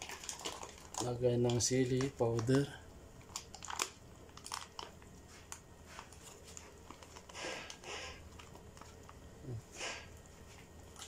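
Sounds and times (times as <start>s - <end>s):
foil sachet crinkling: 0.0s - 9.3s.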